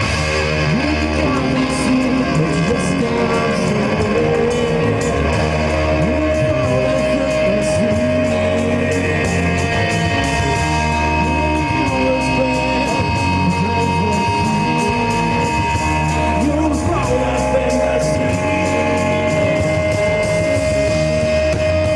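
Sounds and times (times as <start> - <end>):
bass guitar: 0.0 - 21.9
distorted electric guitars: 0.0 - 21.9
person singing: 0.0 - 21.9
steady drum beat: 0.0 - 21.9.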